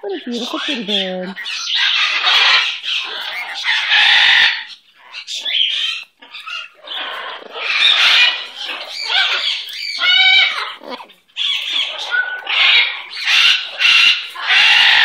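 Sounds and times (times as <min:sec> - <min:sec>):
parrot squawking and chattering: 0:00.0 - 0:15.0.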